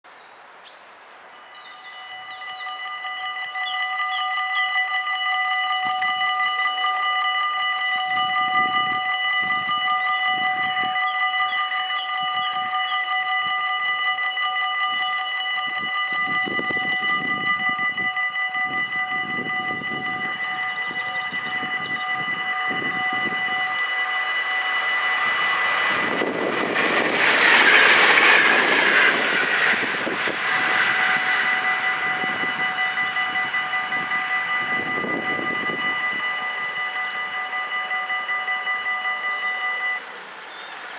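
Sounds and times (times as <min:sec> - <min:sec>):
diesel train passing: 0:00.4 - 0:40.9
level crossing warning bells: 0:01.4 - 0:40.4.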